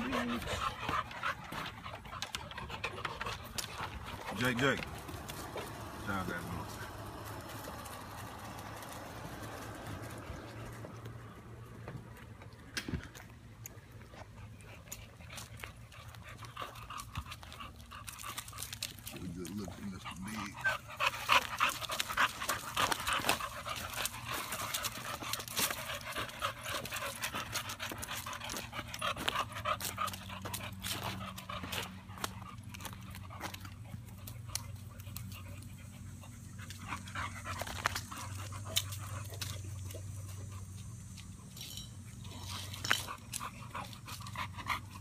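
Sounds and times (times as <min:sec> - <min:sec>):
dogs panting: 0:00.0 - 0:45.0.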